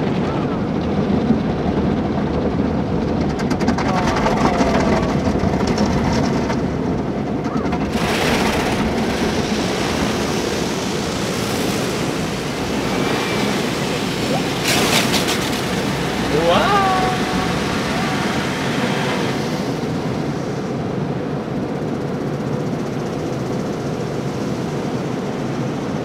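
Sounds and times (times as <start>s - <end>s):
car wash machinery rumbling: 0.0s - 26.0s.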